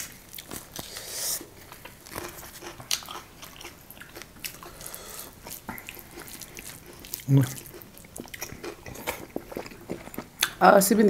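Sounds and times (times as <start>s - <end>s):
chewing and biting: 1.6s - 10.6s.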